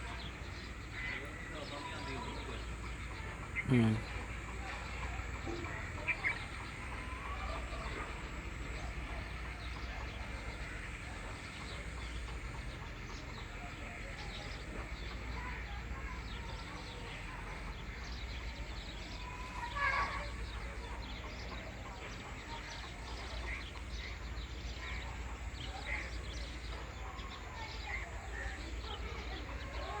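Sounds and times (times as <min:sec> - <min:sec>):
faint bird chirps: 0:00.0 - 0:30.0.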